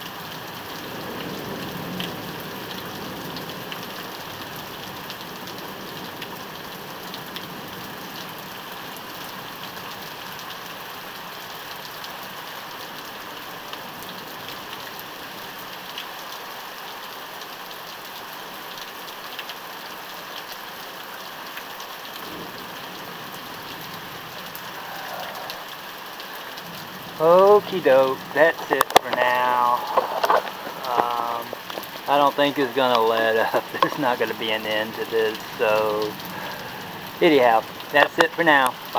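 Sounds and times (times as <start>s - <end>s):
raindrops ticking: 0.0s - 38.9s
steady rain falling: 0.0s - 38.9s.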